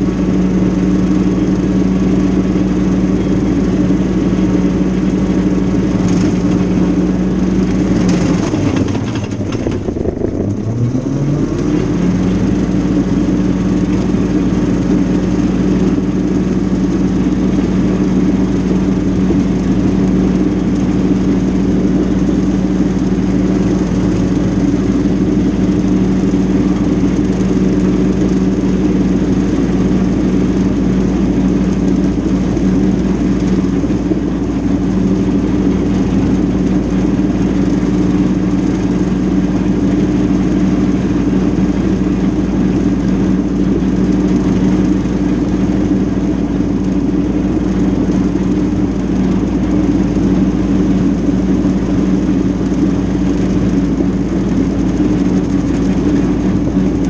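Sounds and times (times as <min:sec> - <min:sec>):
mower cutting tall grass: 0:00.0 - 0:57.0
tractor diesel engine running: 0:00.0 - 0:57.0.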